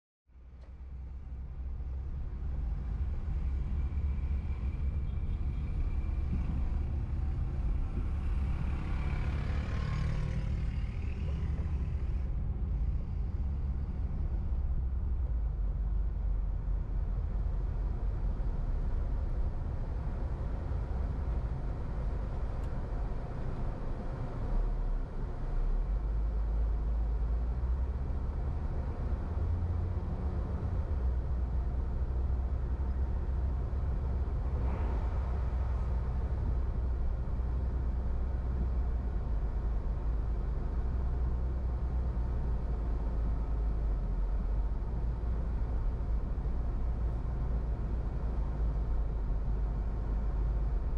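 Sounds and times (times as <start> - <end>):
car engine and road noise: 0.3 - 50.9.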